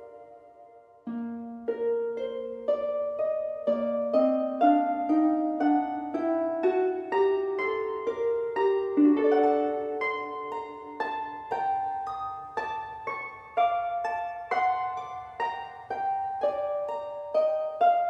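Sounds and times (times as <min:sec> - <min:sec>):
plucked harp-like melody: 0:00.0 - 0:18.0.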